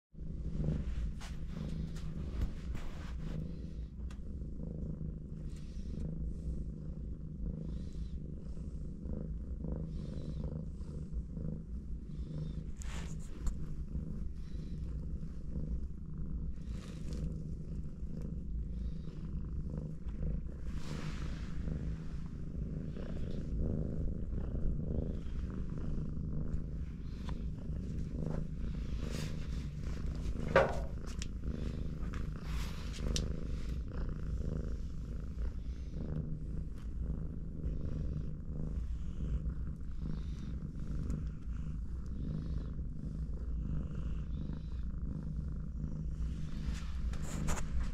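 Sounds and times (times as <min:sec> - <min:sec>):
cats purring: 0:00.0 - 0:47.9.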